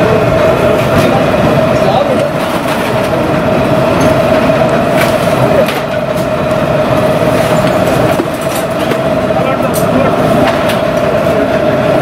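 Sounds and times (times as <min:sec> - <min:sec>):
mechanical drone with hum: 0:00.0 - 0:12.0.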